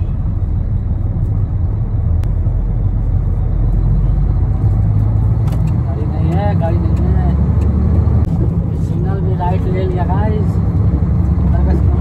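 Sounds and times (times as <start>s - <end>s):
road rumble: 0.0s - 12.0s
truck diesel engine drone: 0.0s - 12.0s.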